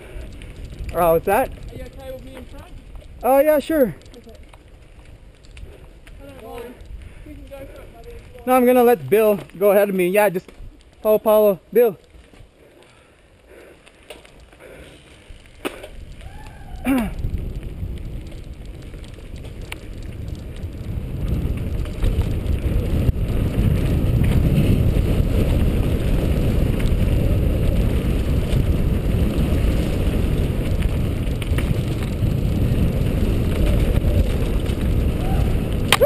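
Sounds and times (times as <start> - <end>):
wind buffeting microphone: 0.0 - 9.6, 13.5 - 36.0
bike rattling: 0.0 - 36.0
tyres rolling on dirt: 0.0 - 36.0.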